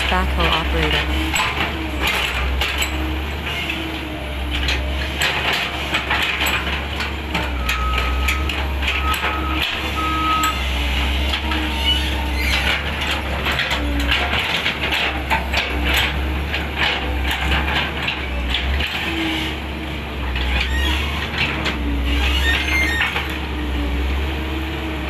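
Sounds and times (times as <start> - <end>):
diesel excavator engine running: 0.0 - 25.0.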